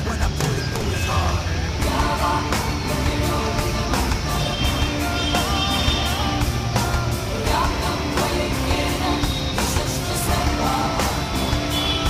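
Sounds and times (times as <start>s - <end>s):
music with steady beat: 1.7s - 12.0s.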